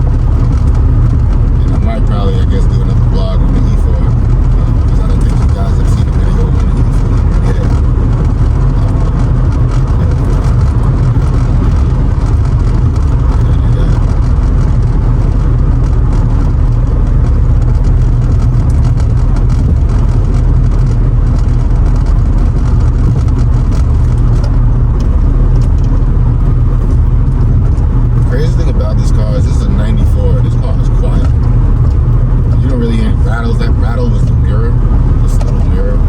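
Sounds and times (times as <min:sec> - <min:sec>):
car cabin road and engine drone: 0:00.0 - 0:36.0.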